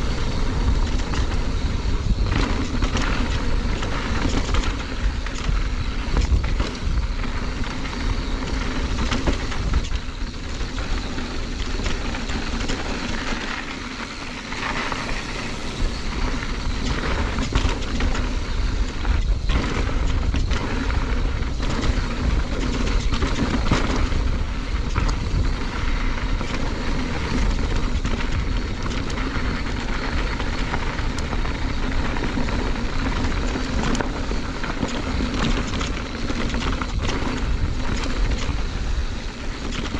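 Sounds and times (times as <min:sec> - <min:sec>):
bike clicks and rattles: 0:00.0 - 0:39.9
tyres rolling over loose rock: 0:00.0 - 0:39.9
wind rumble on microphone: 0:00.0 - 0:39.9.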